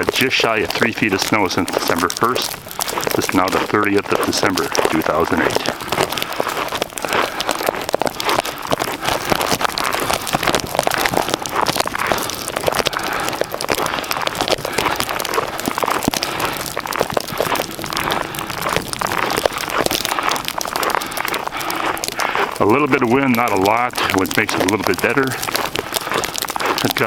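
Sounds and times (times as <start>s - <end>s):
footsteps crunching through snow: 0.0s - 27.0s.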